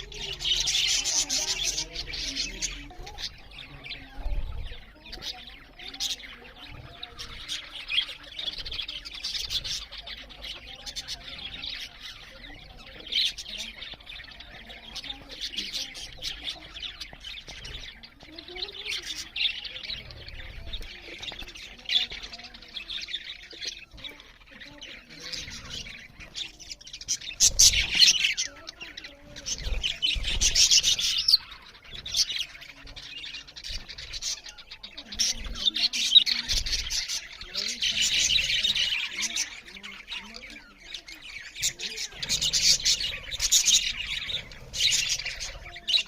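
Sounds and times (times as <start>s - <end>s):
budgerigars chirping and chattering: 0.0s - 46.0s.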